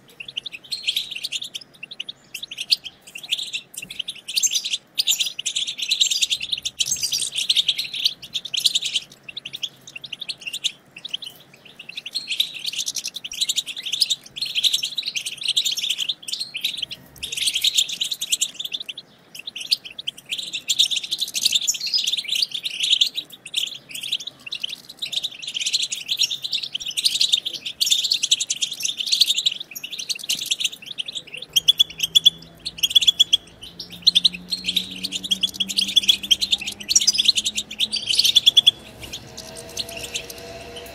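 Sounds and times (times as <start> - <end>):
finches twittering: 0.0 - 40.9.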